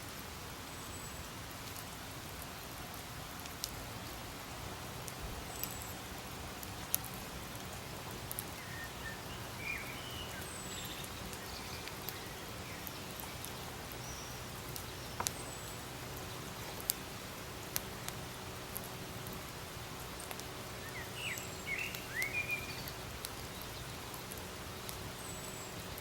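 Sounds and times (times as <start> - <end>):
campfire crackling and popping: 1.5 - 26.0.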